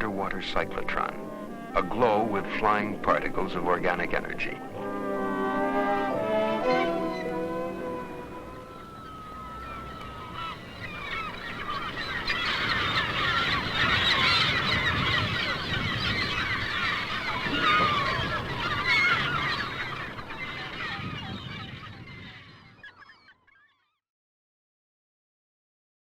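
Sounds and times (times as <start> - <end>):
flock of birds calling: 0.0 - 24.0.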